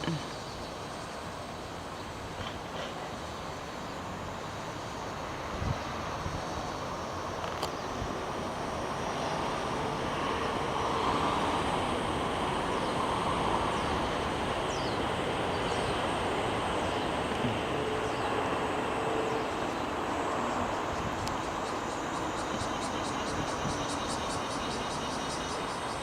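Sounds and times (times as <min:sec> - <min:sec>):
cicada buzzing: 0:02.4 - 0:26.0.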